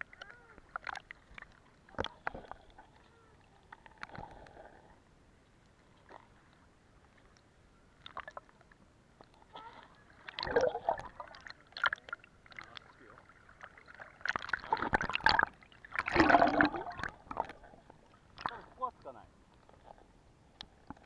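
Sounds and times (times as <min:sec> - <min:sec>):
muffled water splashing and sloshing: 0:00.0 - 0:21.0.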